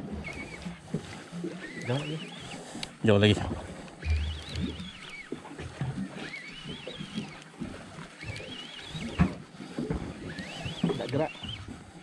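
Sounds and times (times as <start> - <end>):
fishing reel drag whining: 0.0 - 11.8.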